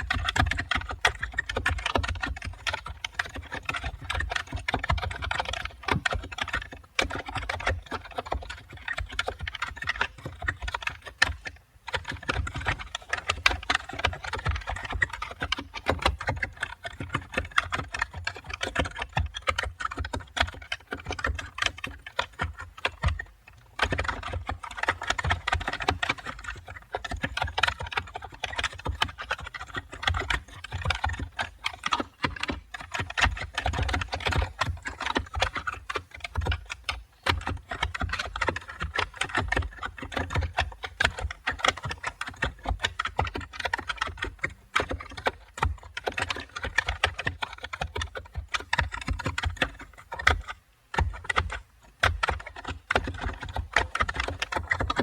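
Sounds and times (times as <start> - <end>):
typing on computer keyboard: 0.0 - 55.0.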